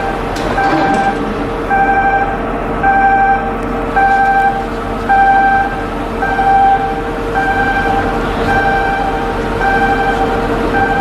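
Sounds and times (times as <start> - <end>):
electronic warning beeper: 0.0 - 11.0
machinery hum: 0.0 - 11.0.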